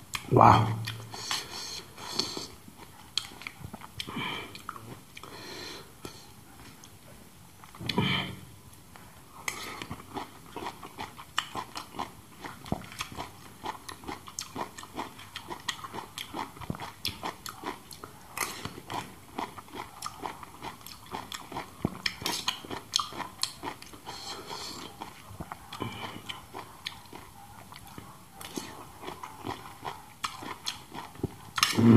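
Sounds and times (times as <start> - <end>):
man chewing and lip-smacking: 0.0 - 5.4, 8.8 - 31.9.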